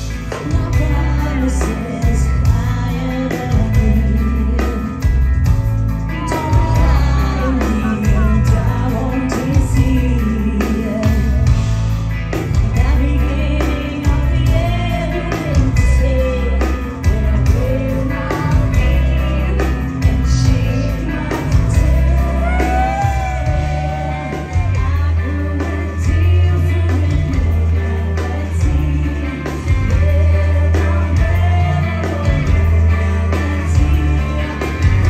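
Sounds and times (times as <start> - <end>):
heavy bass and drums: 0.0 - 35.0
woman singing clean melody: 0.3 - 5.3, 6.0 - 11.6, 12.5 - 35.0.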